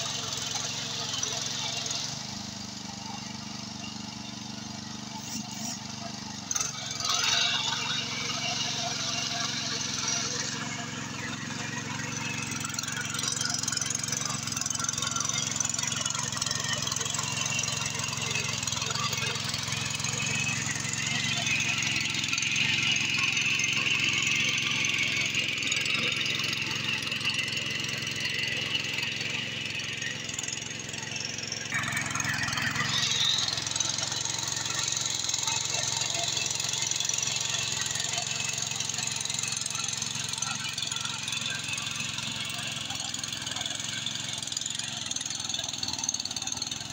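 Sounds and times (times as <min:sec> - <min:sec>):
small engine running under load: 0:00.0 - 0:46.9.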